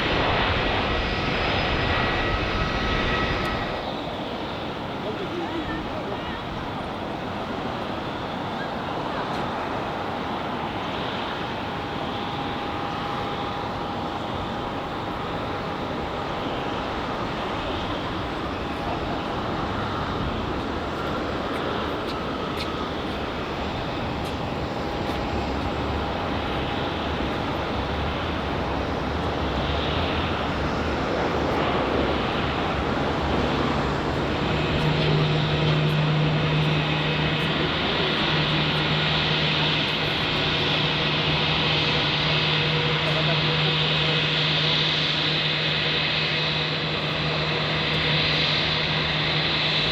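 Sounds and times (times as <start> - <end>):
jet engines rushing with thin whine: 0.0 - 49.9.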